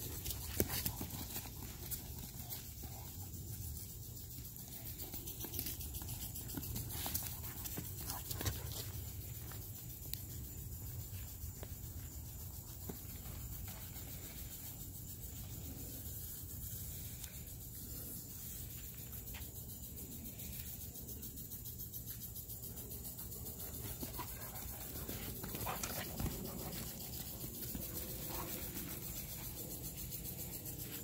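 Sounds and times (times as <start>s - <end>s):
constant low rumble: 0.0s - 31.0s
insect chorus: 0.0s - 31.0s.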